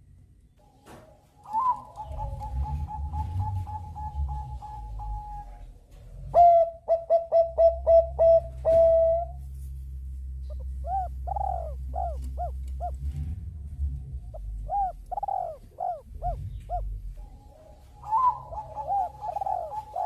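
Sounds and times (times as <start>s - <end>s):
low steady background hum: 0.0s - 20.0s
doves cooing: 0.6s - 9.5s, 10.3s - 20.0s.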